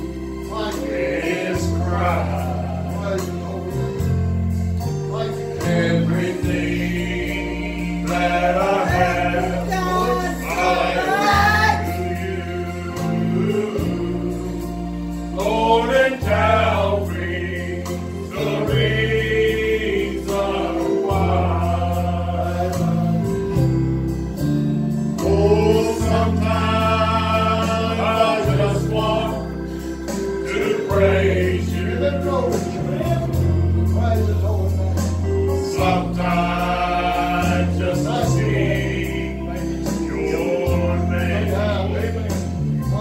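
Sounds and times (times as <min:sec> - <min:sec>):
group of voices singing: 0:00.0 - 0:24.4, 0:25.1 - 0:43.0
low bass notes: 0:00.0 - 0:43.0.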